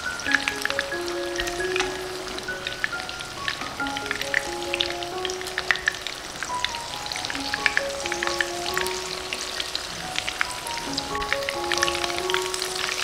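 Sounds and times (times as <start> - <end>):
light melody: 0.0 - 13.0.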